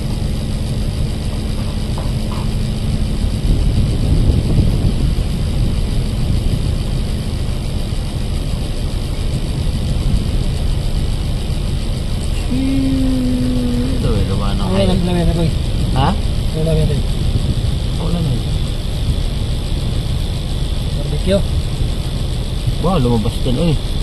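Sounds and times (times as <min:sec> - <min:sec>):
wind-like noise: 0:00.0 - 0:23.1
engine rumble: 0:00.0 - 0:24.0
steady hum: 0:00.0 - 0:24.0.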